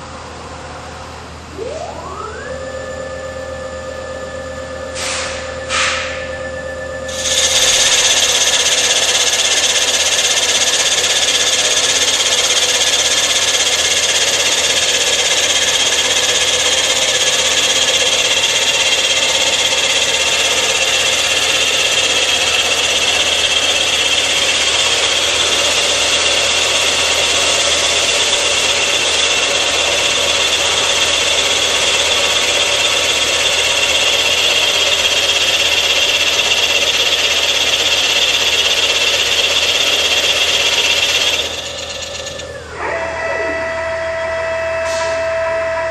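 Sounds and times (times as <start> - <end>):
milling machine cutting metal: 7.1 - 45.9.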